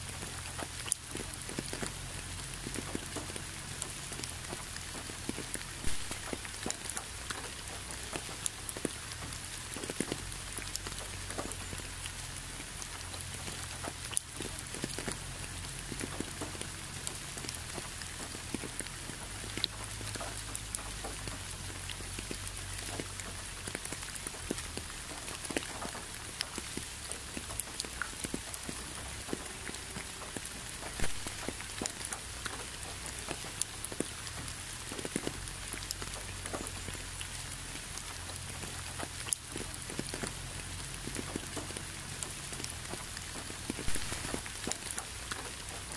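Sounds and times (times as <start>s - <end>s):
rain falling: 0.0s - 45.9s
raindrops ticking: 0.0s - 45.9s.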